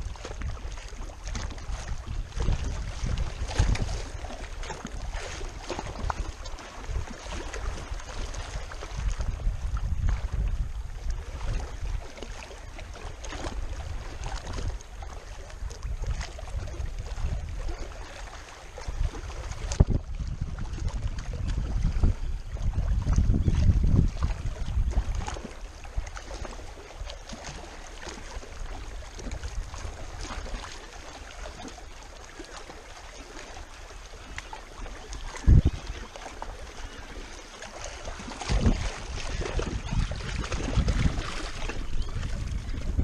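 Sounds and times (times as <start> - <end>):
wind buffeting microphone: 0.0 - 31.8, 33.1 - 43.0
waves lapping against rocks: 0.0 - 43.0.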